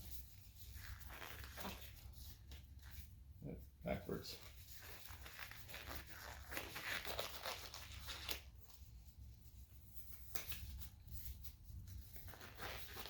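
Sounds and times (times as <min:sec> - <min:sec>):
gloves rustling and crinkling: 0:00.0 - 0:03.4, 0:04.1 - 0:13.0.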